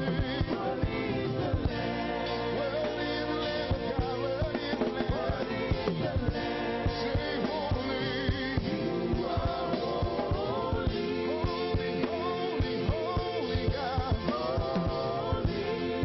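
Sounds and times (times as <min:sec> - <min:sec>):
live band playing gospel song: 0:00.0 - 0:16.0
person singing: 0:00.0 - 0:16.0
steady drum beat: 0:00.0 - 0:16.0.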